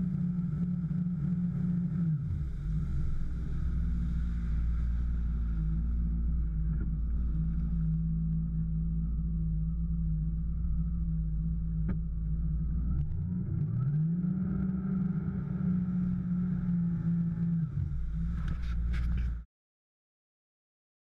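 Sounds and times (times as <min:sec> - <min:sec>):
watercraft engine revving: 0:00.0 - 0:19.1.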